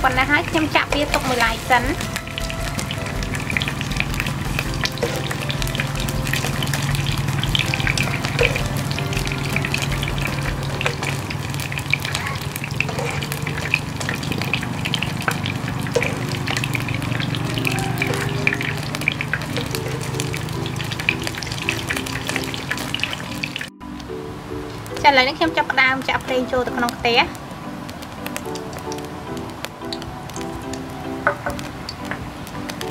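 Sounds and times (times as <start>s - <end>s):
hot oil sizzling and crackling: 0.0s - 32.9s
soft background music: 0.0s - 32.9s.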